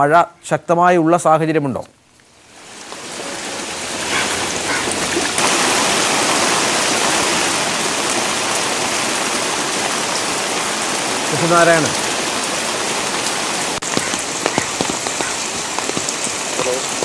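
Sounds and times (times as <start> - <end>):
heavy rain pouring: 2.1 - 17.0.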